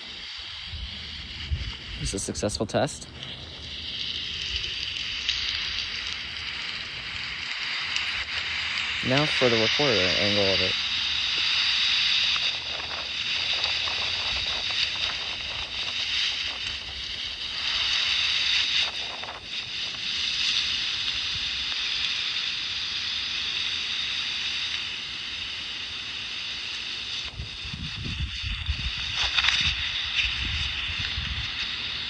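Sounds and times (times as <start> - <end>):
wind buffeting microphone: 0.0 - 22.0, 27.2 - 32.0
gusty wind through trees: 0.0 - 32.0.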